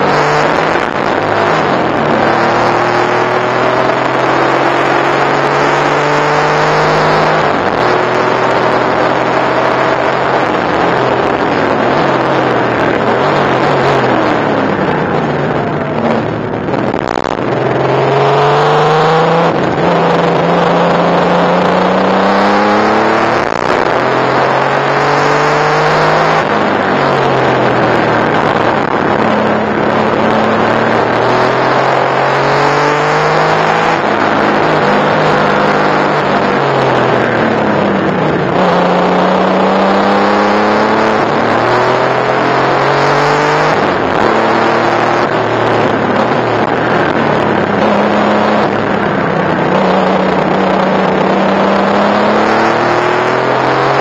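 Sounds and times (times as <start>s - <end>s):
car engine accelerating: 0.0s - 54.0s
wind and road noise: 0.0s - 54.0s.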